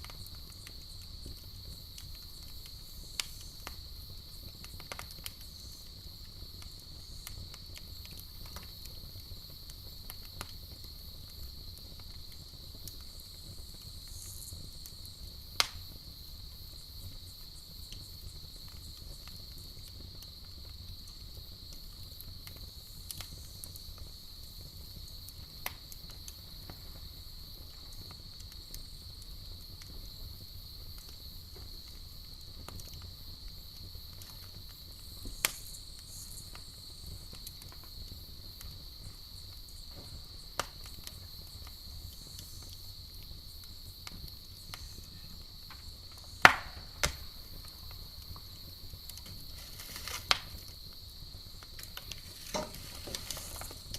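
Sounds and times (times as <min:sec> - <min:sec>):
campfire crackling and popping: 0:00.0 - 0:53.9
night insects chorus: 0:00.0 - 0:53.9.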